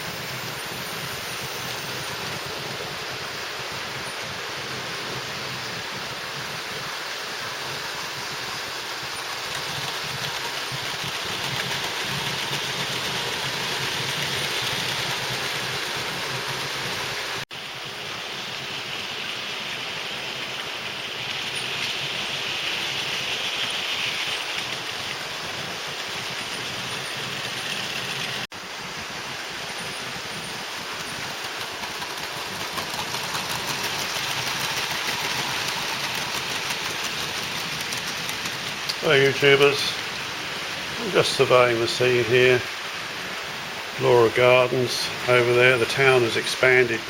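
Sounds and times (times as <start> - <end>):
model trains whirring on track: 0.0 - 47.0.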